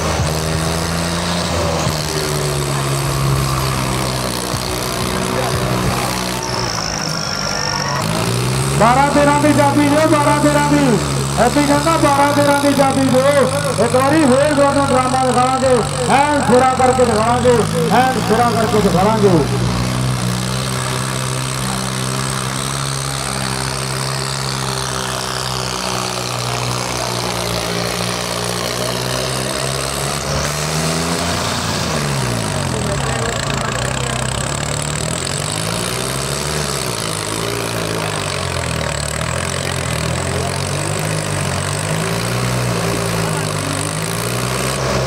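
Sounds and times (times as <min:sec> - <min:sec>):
diesel tractor engine revving: 0:00.0 - 0:45.0.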